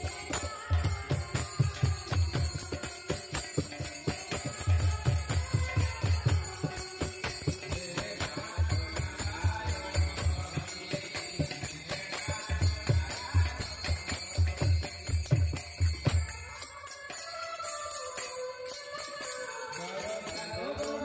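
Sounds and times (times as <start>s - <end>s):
jingling hand cymbals: 0.0s - 21.0s.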